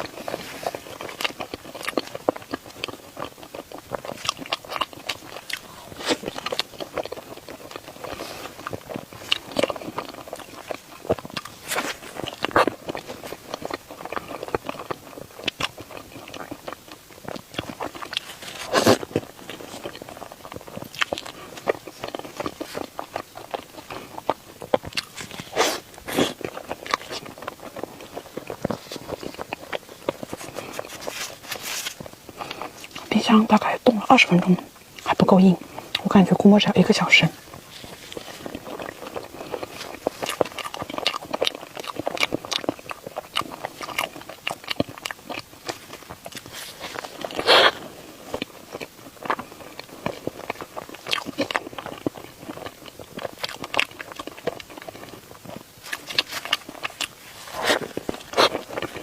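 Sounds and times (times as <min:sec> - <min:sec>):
person chewing soft food: 0:00.0 - 0:59.0.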